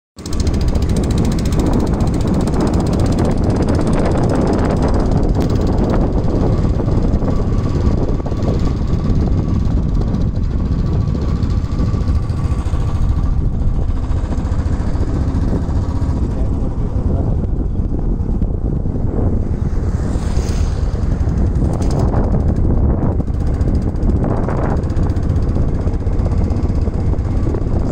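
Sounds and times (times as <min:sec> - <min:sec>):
wind buffeting microphone: 0:00.2 - 0:27.9.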